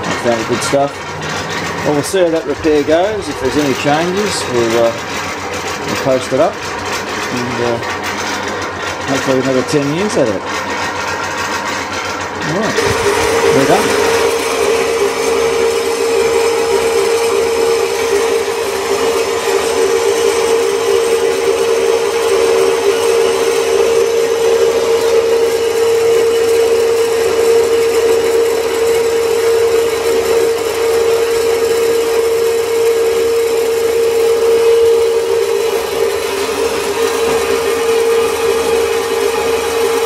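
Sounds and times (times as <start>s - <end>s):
bandsaw cutting steel: 0.0s - 40.0s.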